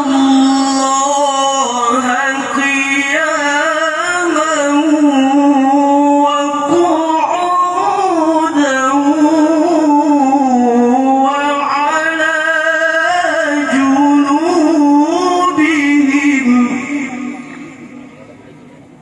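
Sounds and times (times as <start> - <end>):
man reciting melodically: 0.0 - 18.7.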